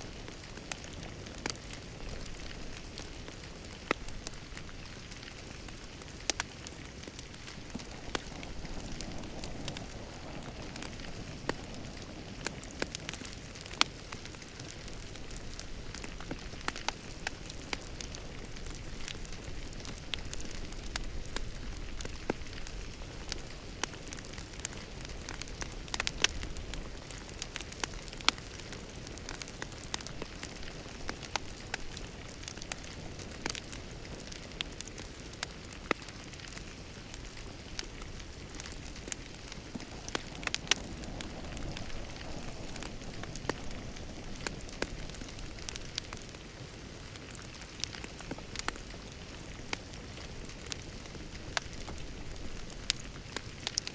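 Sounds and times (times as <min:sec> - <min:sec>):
fire crackling: 0:00.0 - 0:53.9
sharp fire pops: 0:00.1 - 0:53.9.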